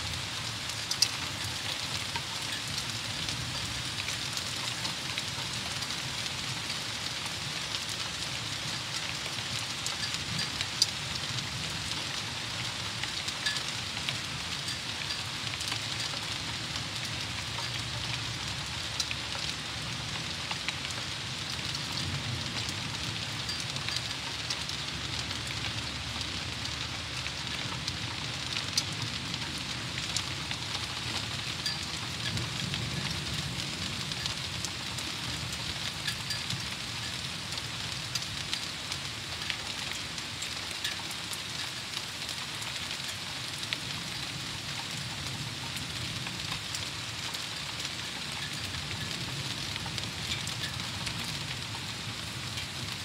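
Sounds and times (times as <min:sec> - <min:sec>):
raindrops ticking close by: 0:00.0 - 0:53.0
thunderstorm rain falling: 0:00.0 - 0:53.0.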